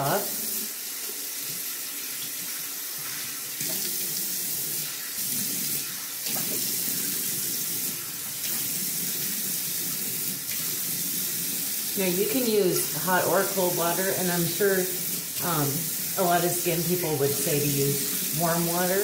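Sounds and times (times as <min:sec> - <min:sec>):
faucet running: 0:00.0 - 0:19.0.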